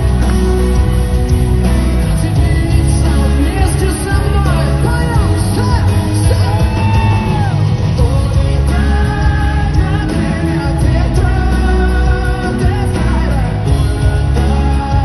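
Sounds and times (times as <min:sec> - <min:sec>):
person singing: 0:00.0 - 0:15.0
pop-rock band playing: 0:00.0 - 0:15.0.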